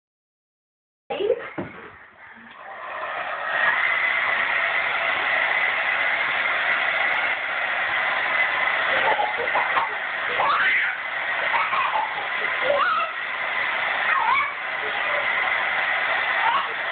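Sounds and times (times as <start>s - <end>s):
hair dryer blowing: 2.5s - 16.9s.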